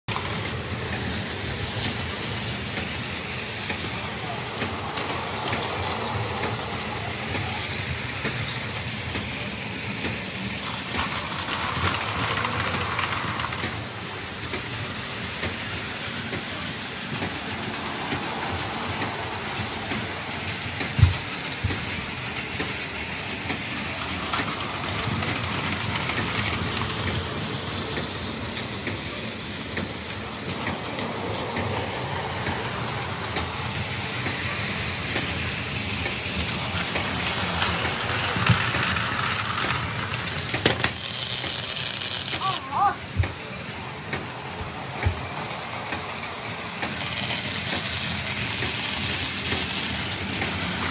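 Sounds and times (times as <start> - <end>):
toy trains running on plastic track: 0.1 - 50.9.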